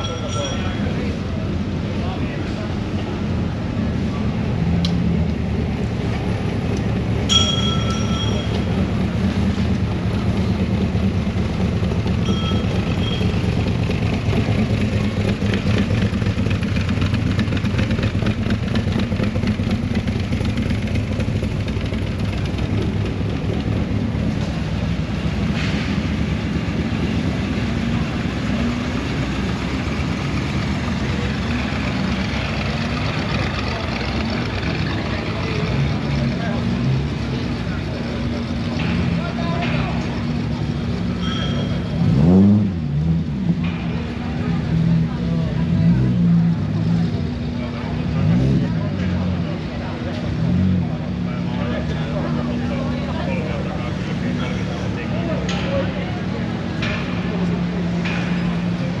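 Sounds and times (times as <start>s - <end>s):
car engines running: 0.0s - 59.0s.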